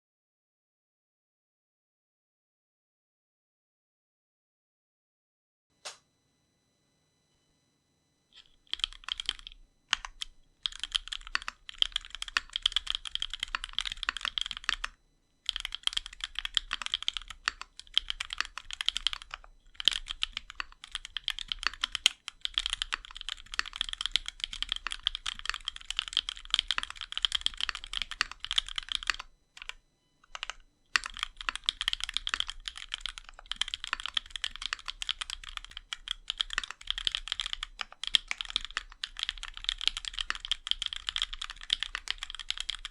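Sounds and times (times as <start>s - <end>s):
fast mechanical keyboard typing: 8.4s - 42.9s.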